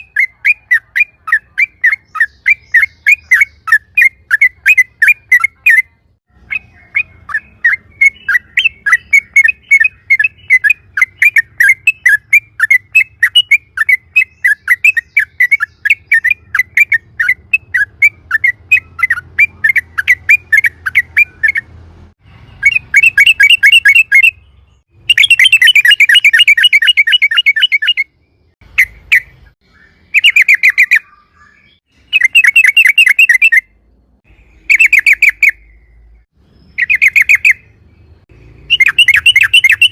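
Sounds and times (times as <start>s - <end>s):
bulbul fast chattering call: 0.0s - 21.7s, 22.4s - 33.7s, 34.3s - 35.9s, 36.6s - 39.9s.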